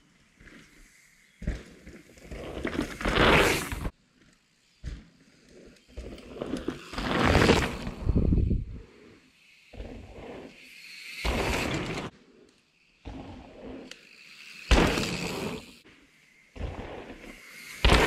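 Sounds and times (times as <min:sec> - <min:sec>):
bike tyres rolling over dirt: 0:00.0 - 0:18.0.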